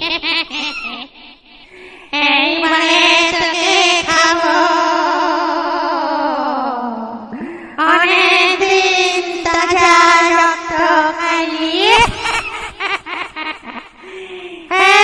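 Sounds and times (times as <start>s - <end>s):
eerie wordless wailing voice: 1.6s - 15.0s.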